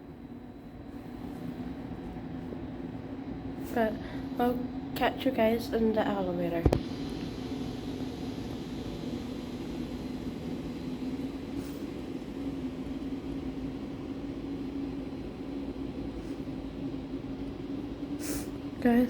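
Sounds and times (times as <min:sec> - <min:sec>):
low mechanical droning hum: 0:00.0 - 0:19.0.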